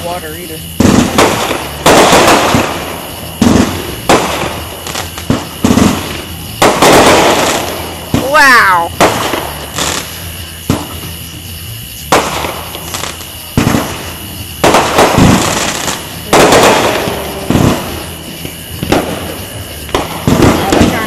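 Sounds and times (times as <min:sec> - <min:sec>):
fireworks bursting with bangs: 0:00.0 - 0:21.0.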